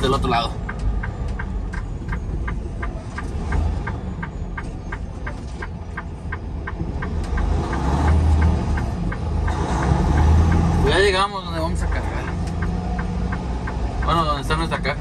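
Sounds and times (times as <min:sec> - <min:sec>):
diesel engine rumble: 0:00.0 - 0:15.0
turn signal clicking: 0:00.0 - 0:15.0.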